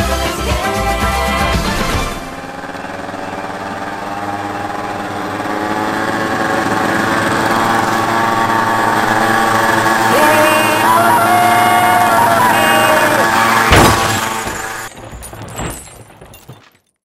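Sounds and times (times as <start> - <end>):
motor scooter engine running: 0.0 - 15.2.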